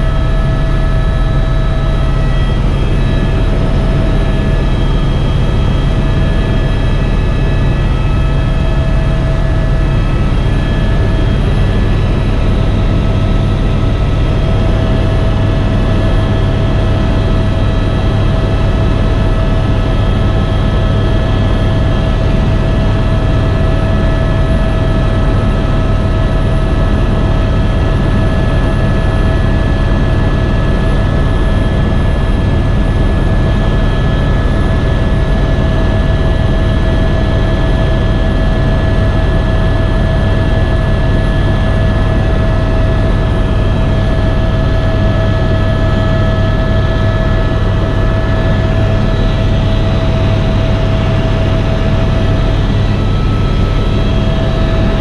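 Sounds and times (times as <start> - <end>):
helicopter rotor drone: 0.0 - 55.0
helicopter whine: 0.0 - 55.0.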